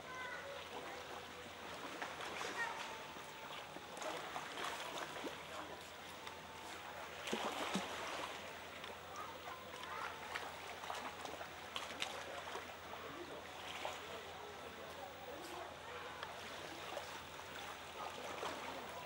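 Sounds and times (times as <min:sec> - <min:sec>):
water lapping and splashing: 0:00.0 - 0:19.0.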